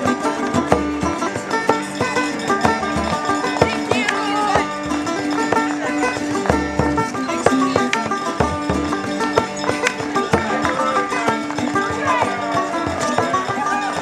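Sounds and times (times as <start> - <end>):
banjo picking: 0.0 - 14.0
frame drum struck with a stick: 0.0 - 14.0.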